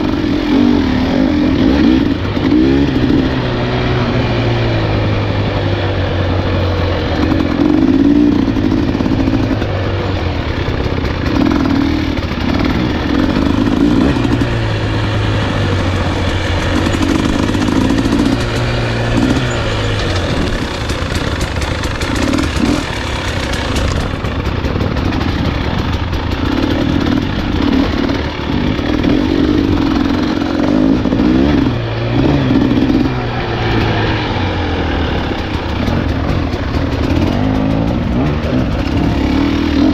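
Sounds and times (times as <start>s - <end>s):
clatter: 0.0s - 39.9s
dirt bike engine revving: 0.0s - 39.9s.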